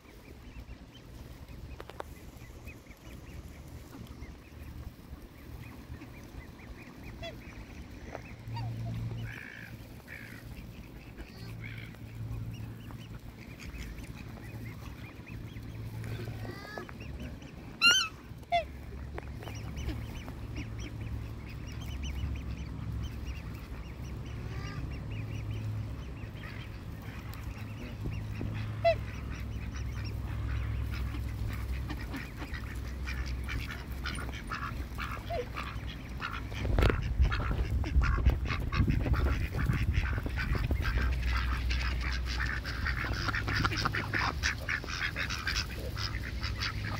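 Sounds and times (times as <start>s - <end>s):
ducks quacking: 0.0s - 46.9s
waterfowl calling: 0.0s - 46.9s.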